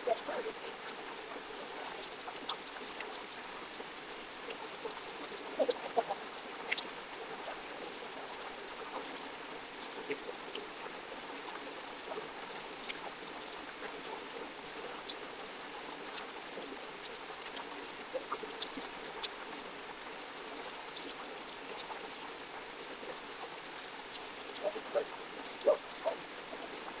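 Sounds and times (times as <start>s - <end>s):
faint ticks and splashes: 0.0s - 27.0s
stream running: 0.0s - 27.0s.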